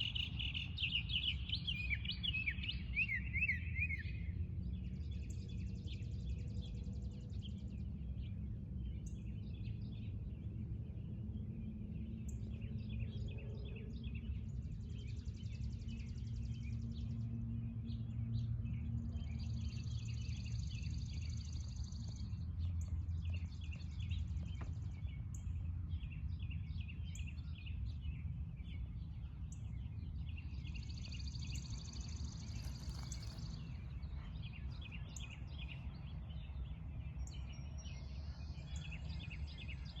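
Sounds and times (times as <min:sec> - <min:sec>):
birds chirping and singing: 0:00.0 - 0:40.0
steady low rumble: 0:04.2 - 0:40.0.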